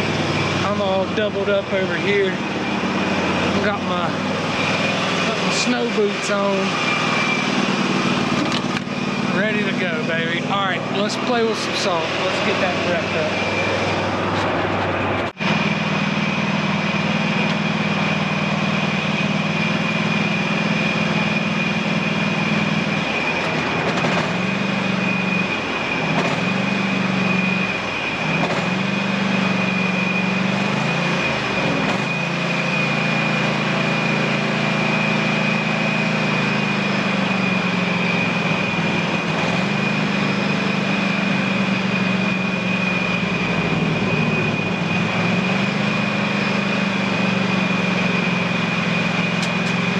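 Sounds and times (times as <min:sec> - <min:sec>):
lawn tractor engine running: 0:00.0 - 0:49.9
steady high whine: 0:00.0 - 0:49.9.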